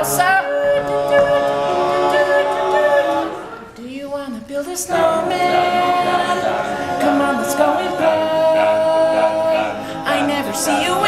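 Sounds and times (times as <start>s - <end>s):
male a cappella group singing: 0.0s - 3.7s, 4.6s - 11.0s.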